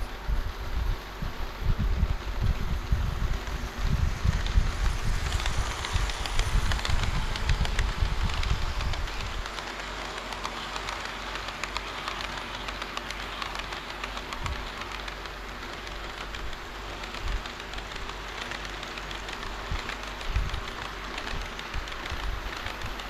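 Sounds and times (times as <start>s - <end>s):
model train wheels clattering: 0.0s - 23.0s.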